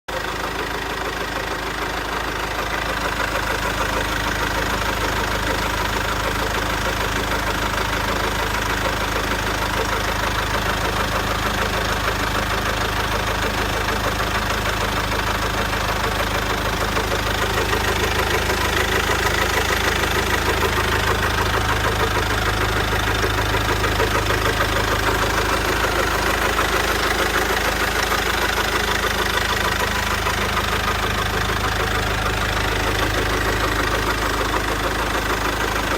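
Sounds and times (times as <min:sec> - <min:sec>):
diesel engine idling: 0:00.1 - 0:35.9.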